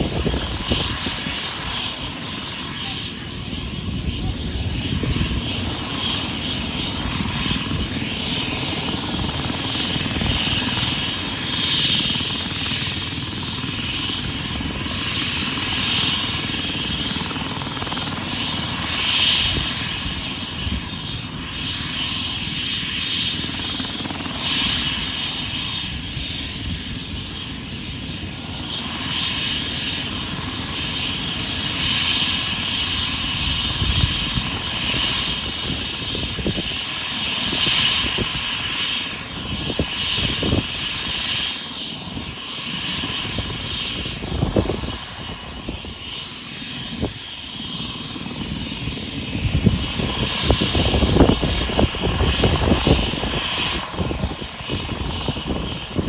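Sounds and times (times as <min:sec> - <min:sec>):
helicopter rotor and engine: 0:00.0 - 0:56.0
high turbine whine: 0:00.0 - 0:56.0.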